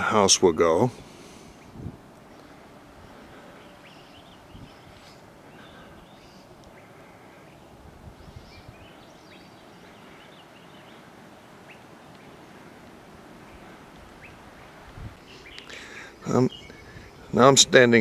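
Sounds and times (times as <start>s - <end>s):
outdoor background noise: 0.0s - 18.0s
birds chirping and singing: 2.2s - 12.8s, 13.4s - 18.0s.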